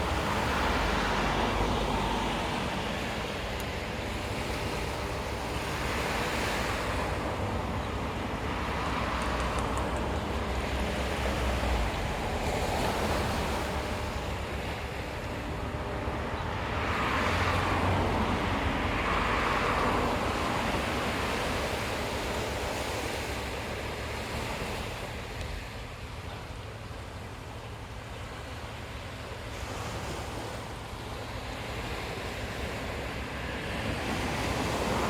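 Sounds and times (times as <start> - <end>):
ocean waves breaking on beach: 0.0 - 35.0.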